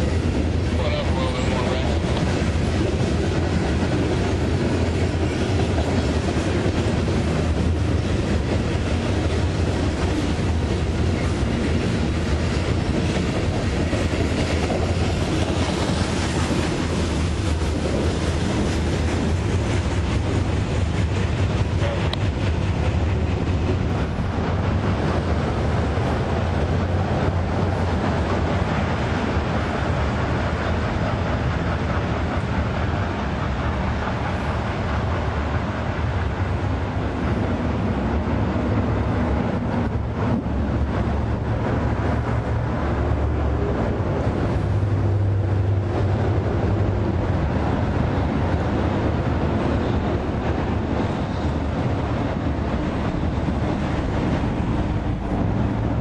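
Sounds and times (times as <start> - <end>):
freight train rumble: 0.0 - 56.0
wheels clattering on rails: 0.0 - 56.0.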